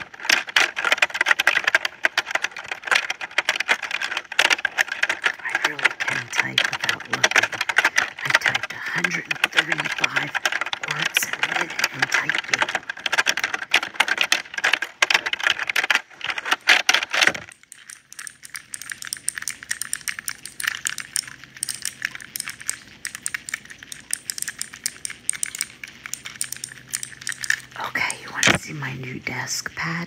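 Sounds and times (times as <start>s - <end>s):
small plastic pieces clicking: 0.0s - 28.6s
rapid keyboard typing: 0.0s - 30.0s.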